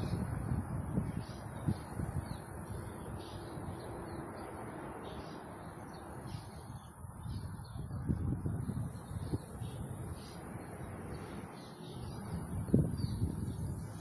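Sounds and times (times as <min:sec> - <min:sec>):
small bird chirping: 0:01.1 - 0:14.0.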